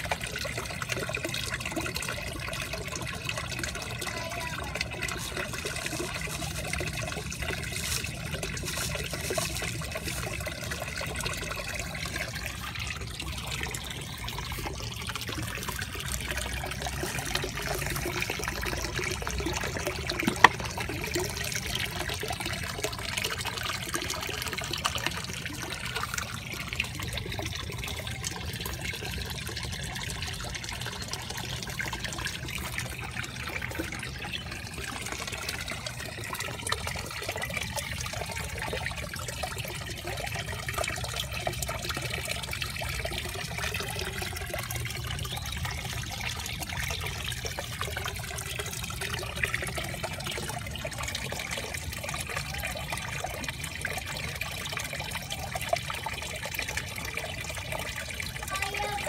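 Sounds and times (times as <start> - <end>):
water pouring into a pond: 0.0 - 59.0.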